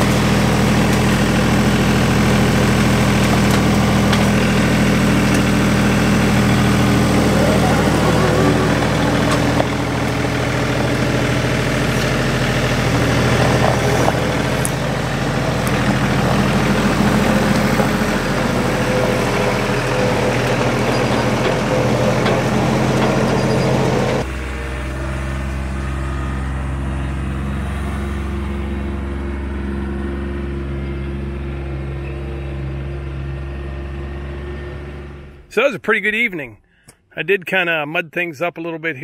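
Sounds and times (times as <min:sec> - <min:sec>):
tractor diesel engine running: 0:00.0 - 0:35.7.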